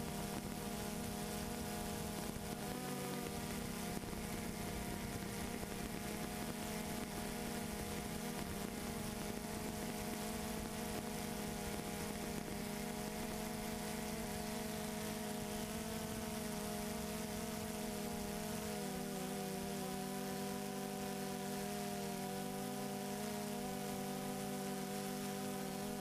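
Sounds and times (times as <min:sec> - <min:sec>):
drone propellers humming: 0:00.0 - 0:25.8.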